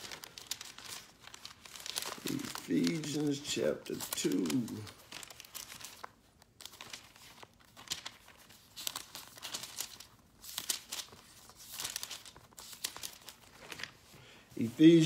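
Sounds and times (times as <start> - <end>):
paper pages rustling and flicking: 0.0 - 15.0.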